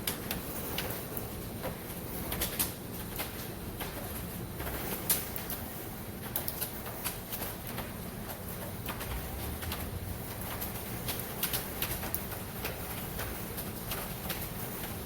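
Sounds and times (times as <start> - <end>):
rain hissing on roof: 0.0 - 15.0.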